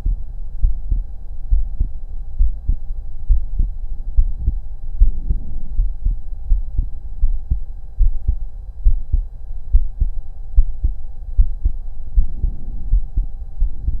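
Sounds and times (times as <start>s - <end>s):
faint steady hum: 0.0s - 14.0s
heartbeat through stethoscope: 0.0s - 14.0s.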